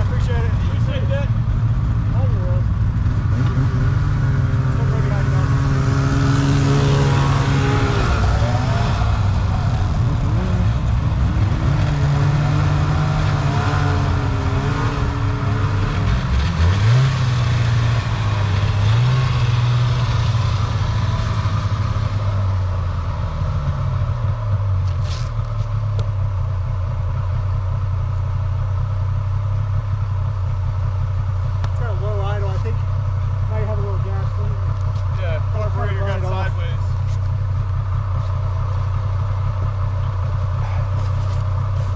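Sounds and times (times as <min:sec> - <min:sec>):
snowmobile engines revving: 0:00.0 - 0:25.8, 0:31.6 - 0:41.9.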